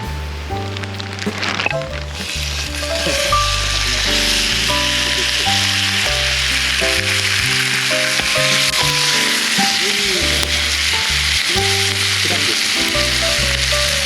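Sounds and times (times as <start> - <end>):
background music with bass line: 0.0 - 14.0.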